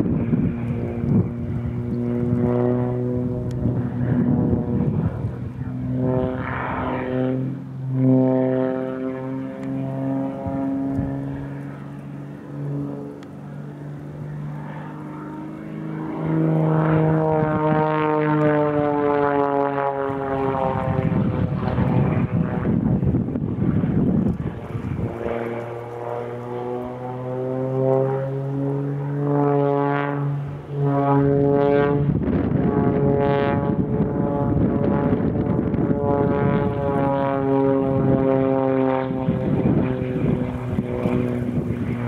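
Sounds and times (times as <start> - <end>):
wind on microphone: 0.0 - 13.2, 16.1 - 42.0
propeller plane engine droning: 0.0 - 42.0.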